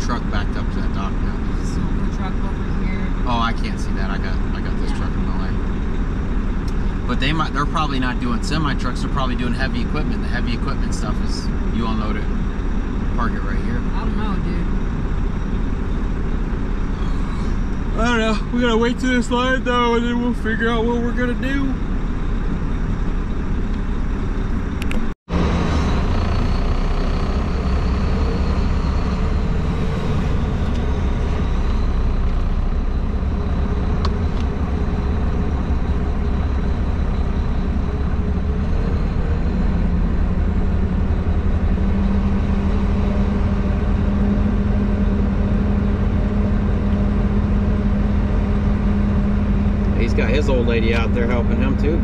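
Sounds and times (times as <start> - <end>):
truck diesel engine running: 0.0 - 52.0.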